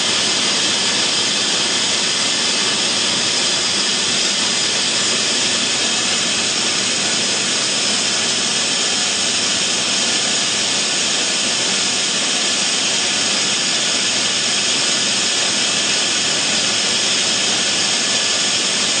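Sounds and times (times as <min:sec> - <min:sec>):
bottling machinery hissing: 0:00.0 - 0:19.0.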